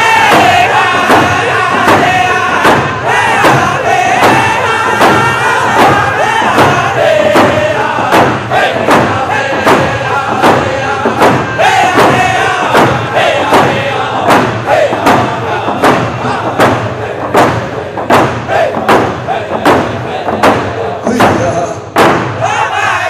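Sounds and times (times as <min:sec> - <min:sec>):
hand drum beat: 0:00.0 - 0:22.3
group of singers chanting: 0:00.0 - 0:23.0.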